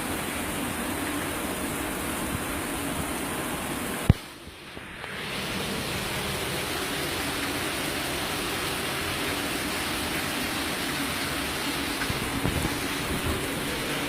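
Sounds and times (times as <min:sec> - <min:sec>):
torrential rain pouring: 0:00.0 - 0:14.0.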